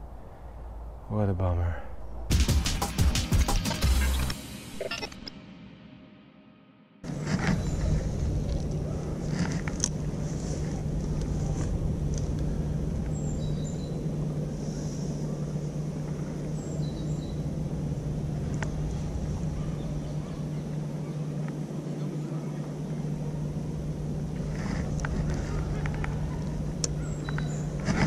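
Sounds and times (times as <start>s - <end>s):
low rumbling: 0.0s - 2.4s, 7.0s - 28.0s.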